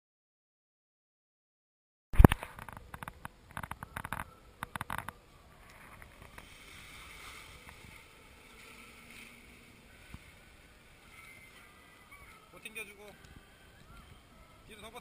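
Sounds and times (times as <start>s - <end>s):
faint wind rush: 2.2s - 15.0s.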